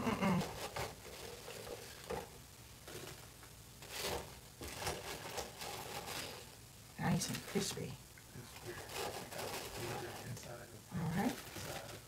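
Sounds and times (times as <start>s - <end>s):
fries rustling in wire basket: 0.2s - 7.5s, 8.5s - 12.0s.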